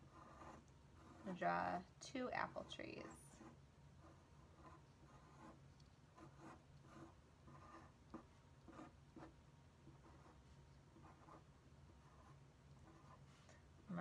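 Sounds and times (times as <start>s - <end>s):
pencil scratching on paper: 0.0s - 13.4s.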